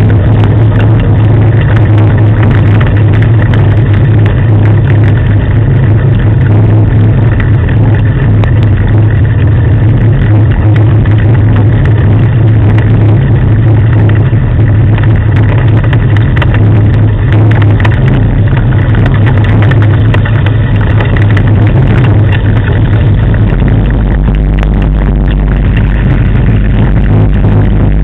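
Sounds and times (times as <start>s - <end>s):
rig rolling along road: 0.0s - 28.0s.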